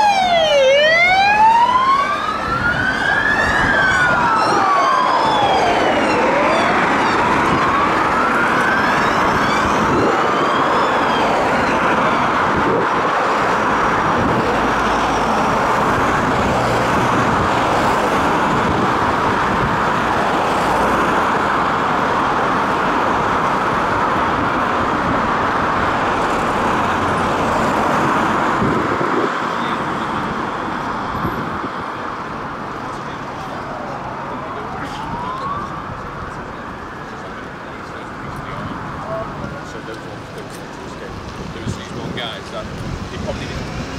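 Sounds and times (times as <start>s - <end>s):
police sirens wailing: 0.0s - 43.9s
traffic noise: 0.0s - 43.9s.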